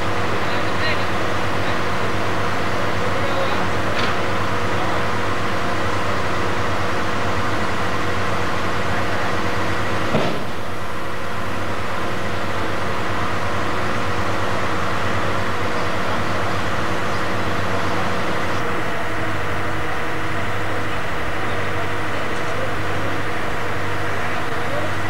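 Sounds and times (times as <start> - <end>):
mechanical hum with hiss: 0.0 - 25.0.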